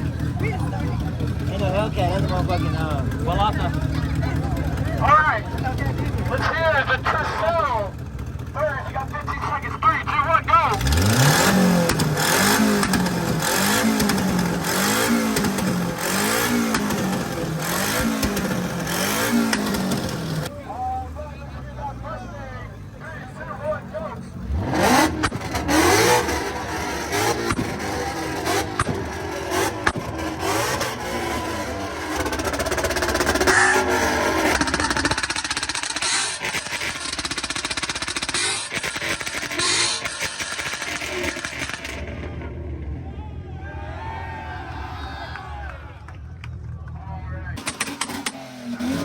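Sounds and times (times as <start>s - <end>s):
car engine revving: 0.0s - 20.5s, 21.2s - 43.7s, 45.6s - 49.0s.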